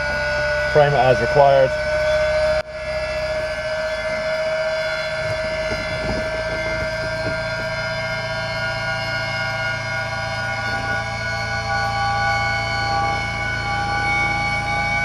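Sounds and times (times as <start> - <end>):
electrical whine: 0.0 - 15.0.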